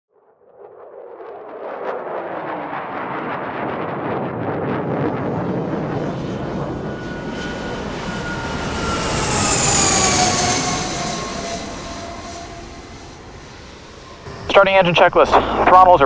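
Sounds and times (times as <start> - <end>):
jet flyby whine: 0.5 - 16.0.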